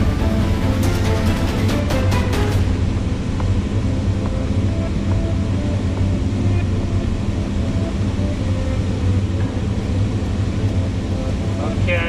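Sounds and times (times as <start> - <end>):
diesel excavator engine running: 0.0 - 12.0.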